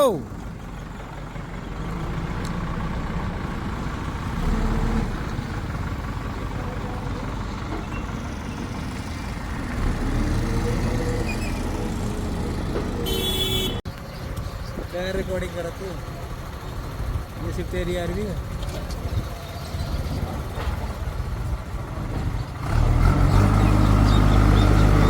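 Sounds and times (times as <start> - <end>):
diesel engine running and revving: 0.0 - 25.0.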